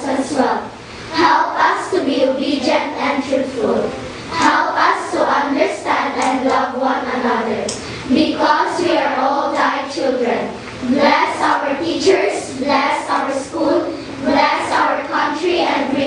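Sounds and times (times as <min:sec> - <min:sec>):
children praying aloud in unison: 0:00.0 - 0:16.0.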